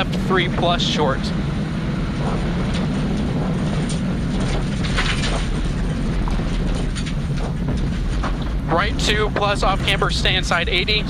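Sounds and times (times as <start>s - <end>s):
rally car engine running hard: 0.0s - 11.0s
tyre and road noise: 0.0s - 11.0s.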